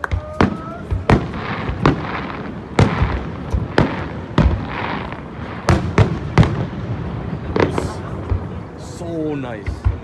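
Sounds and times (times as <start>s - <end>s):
crackling hiss: 0.0s - 9.7s
fireworks bangs: 0.0s - 10.0s.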